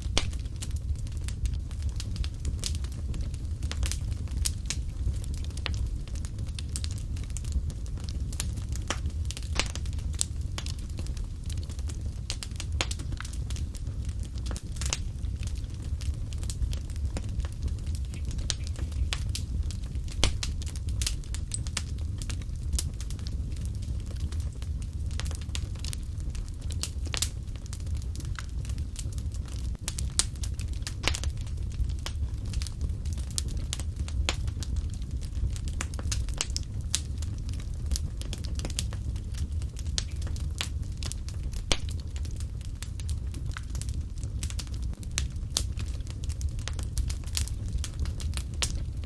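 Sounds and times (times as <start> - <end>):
low rumble of burning fire: 0.0 - 49.0
wood fire crackling and popping: 0.0 - 49.0.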